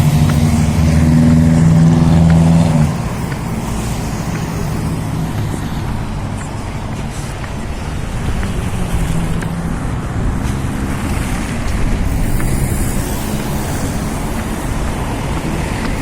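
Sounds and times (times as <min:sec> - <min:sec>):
street traffic noise: 0:00.0 - 0:16.0
wind buffeting microphone: 0:00.0 - 0:16.0.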